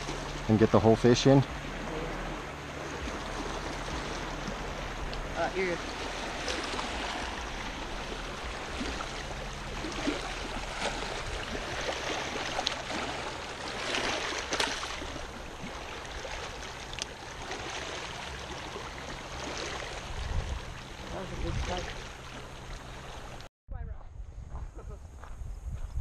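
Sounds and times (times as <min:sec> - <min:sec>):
small waves lapping on rocks: 0:00.0 - 0:23.5
fish splashing in water: 0:02.2 - 0:23.5.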